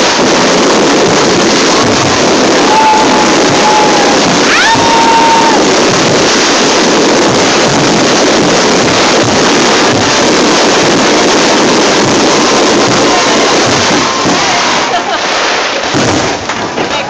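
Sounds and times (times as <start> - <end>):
fireworks barrage: 0.0 - 17.0.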